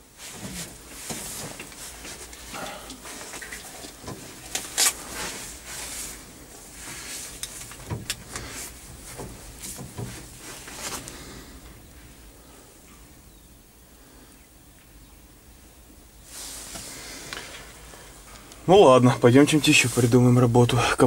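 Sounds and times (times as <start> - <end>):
rustling: 0.0 - 13.1, 16.2 - 20.7.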